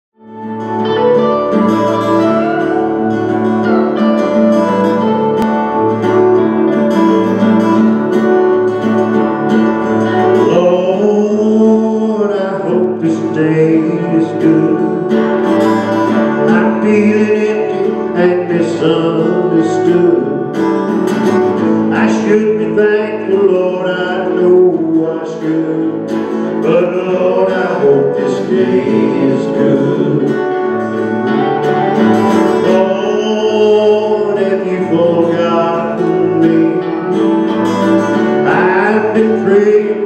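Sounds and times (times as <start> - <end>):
live band playing: 0.2 - 40.0.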